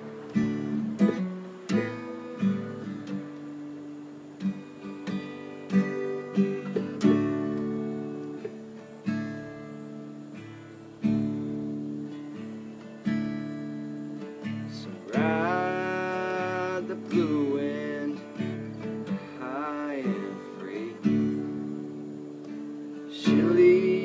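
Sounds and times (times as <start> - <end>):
acoustic guitar: 0.0 - 24.0.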